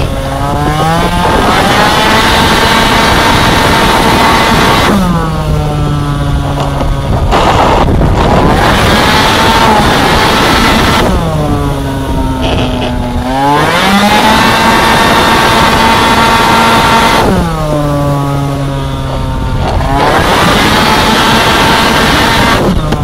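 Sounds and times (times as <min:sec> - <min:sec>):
scooter engine revving: 0:00.0 - 0:23.0.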